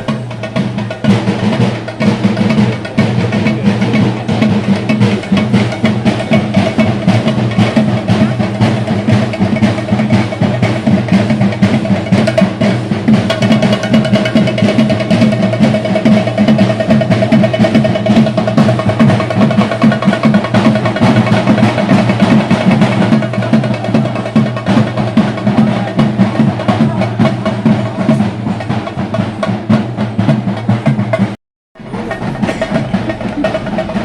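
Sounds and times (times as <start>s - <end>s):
fast drum roll: 0.0s - 34.0s.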